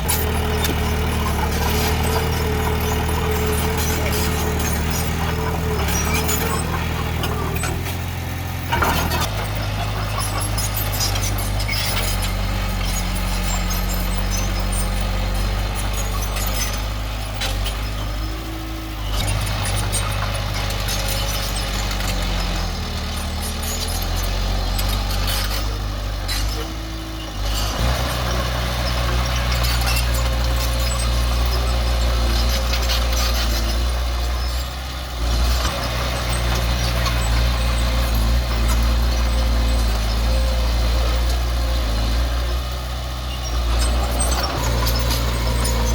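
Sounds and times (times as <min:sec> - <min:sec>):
heavy diesel machinery engine: 0:00.0 - 0:45.9.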